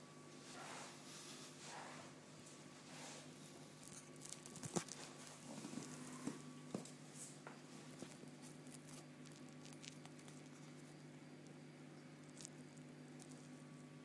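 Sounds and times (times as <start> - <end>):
aquarium equipment hum: 0.0 - 14.0.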